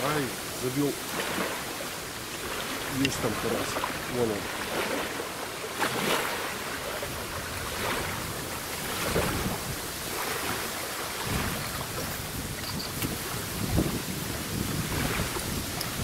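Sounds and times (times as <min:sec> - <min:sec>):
small waves lapping on sand: 0:00.0 - 0:16.0
wind buffeting microphone: 0:00.0 - 0:16.0.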